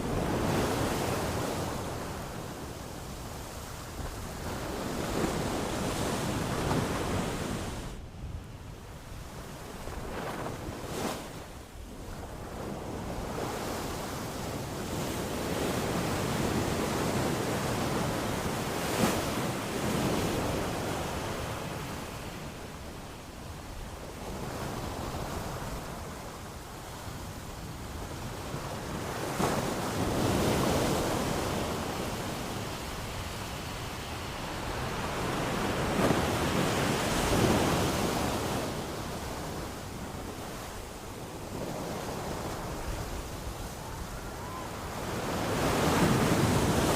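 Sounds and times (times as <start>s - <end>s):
ocean waves washing ashore: 0.0s - 46.9s.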